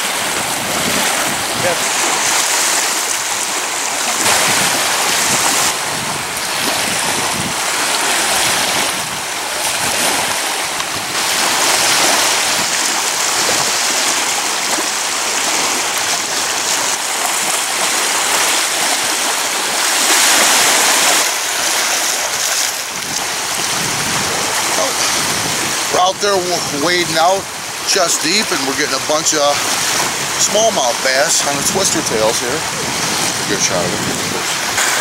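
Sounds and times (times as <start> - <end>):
lake waves lapping at shore: 0.0 - 35.0.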